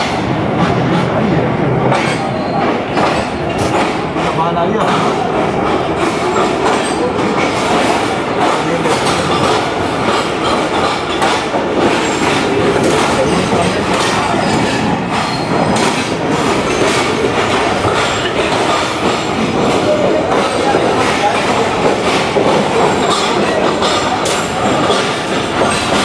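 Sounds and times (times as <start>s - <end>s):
train rumbling: 0.0s - 26.0s
wheels clattering over rail joints: 1.9s - 26.0s.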